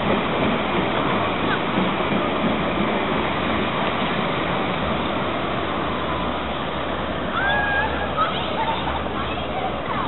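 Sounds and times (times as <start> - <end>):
tram running on street track: 0.0 - 10.0.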